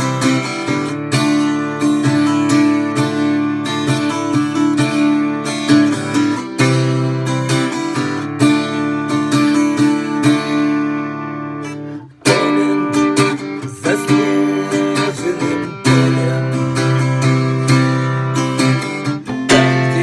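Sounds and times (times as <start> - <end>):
strummed acoustic guitar chords: 0.0 - 20.0.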